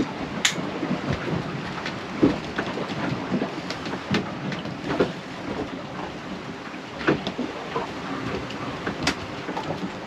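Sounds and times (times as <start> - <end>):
water rushing along hull: 0.0 - 10.0.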